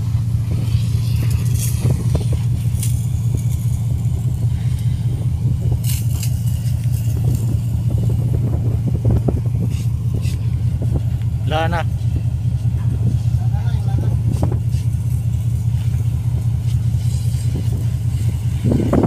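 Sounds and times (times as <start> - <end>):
low rumble on ship deck: 0.0 - 19.0.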